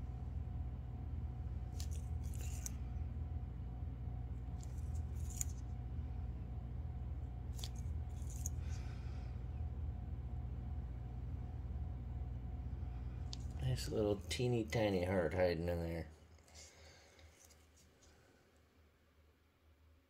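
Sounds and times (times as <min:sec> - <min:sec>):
low hum: 0:00.0 - 0:17.6.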